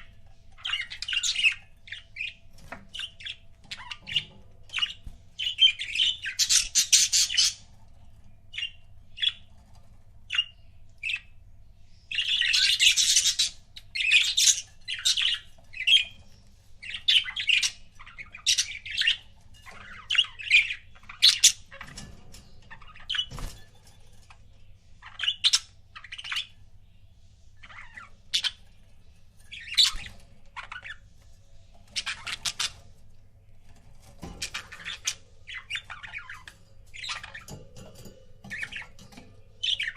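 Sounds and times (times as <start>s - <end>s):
budgerigars chirping: 0.0s - 7.8s, 8.5s - 9.5s, 10.3s - 11.4s, 12.0s - 23.5s, 25.0s - 26.6s, 27.6s - 33.0s, 34.2s - 39.9s.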